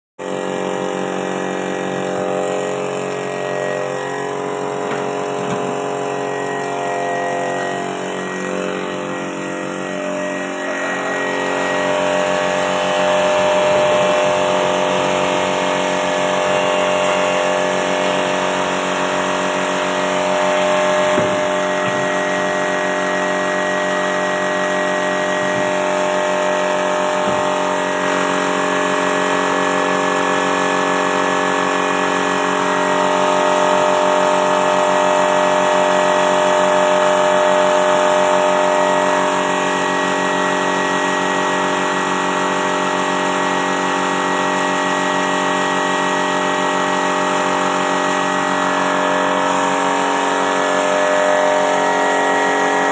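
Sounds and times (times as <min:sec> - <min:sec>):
electric machine humming: 0:00.2 - 0:52.9.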